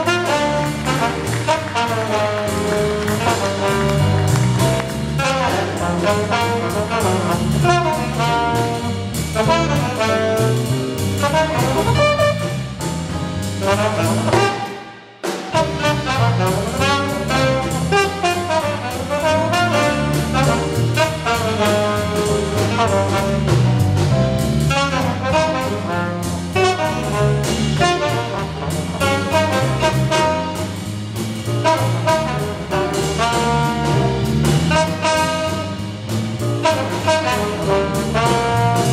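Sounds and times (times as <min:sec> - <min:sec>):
alto saxophone: 0:00.0 - 0:38.9
drum kit: 0:00.0 - 0:38.9
jazz ensemble playing: 0:00.0 - 0:38.9
trombone: 0:00.0 - 0:38.9.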